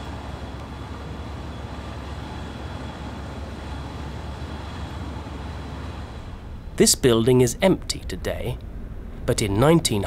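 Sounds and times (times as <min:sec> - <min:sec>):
distant city hum: 0:00.0 - 0:10.0.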